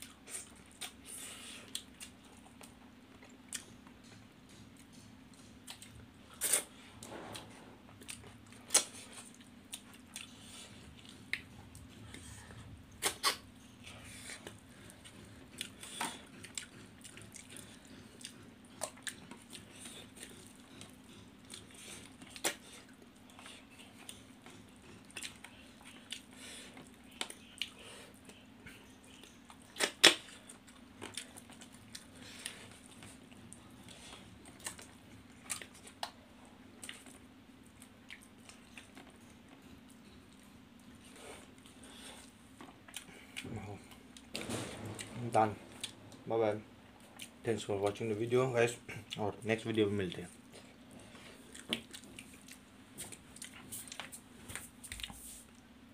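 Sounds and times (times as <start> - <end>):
chewing with mouth smacks: 0.0 - 6.8, 7.4 - 44.4, 46.9 - 47.5, 48.8 - 49.3, 50.1 - 55.7
faint low hum: 0.0 - 55.9.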